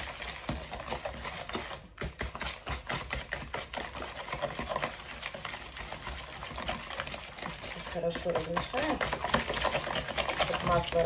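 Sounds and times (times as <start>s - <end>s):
batter stirred in a bowl: 0.0s - 11.0s.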